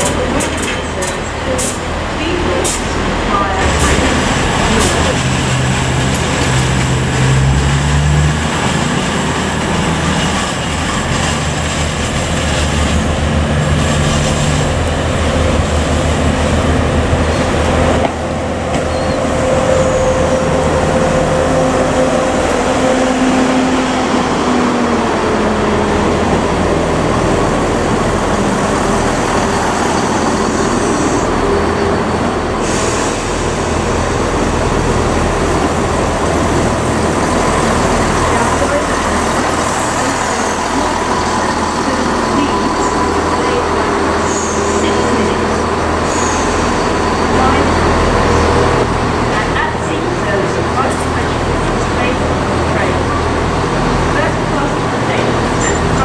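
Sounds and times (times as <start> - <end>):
train rushing drone: 0.0 - 56.0.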